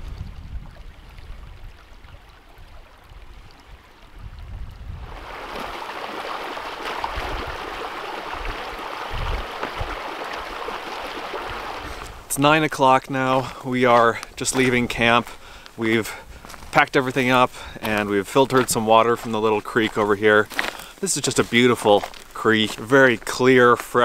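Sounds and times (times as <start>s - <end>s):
creek running over rocks: 0.0s - 24.0s.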